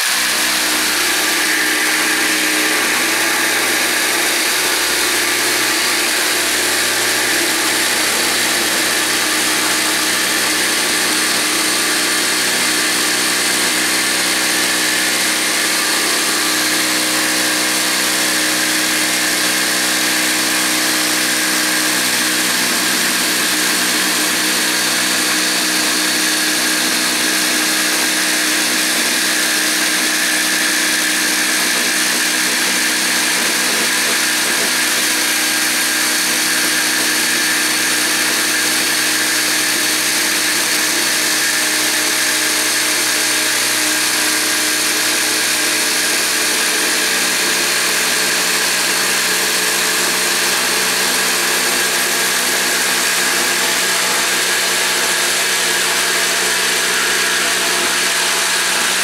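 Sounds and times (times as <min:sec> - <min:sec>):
jigsaw cutting timber: 0:00.0 - 0:59.0.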